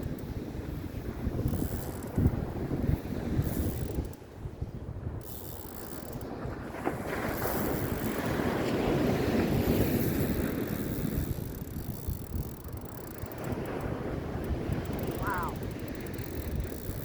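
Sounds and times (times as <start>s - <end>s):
wind buffeting microphone: 0.0s - 17.0s
surf on the beach: 2.1s - 17.0s.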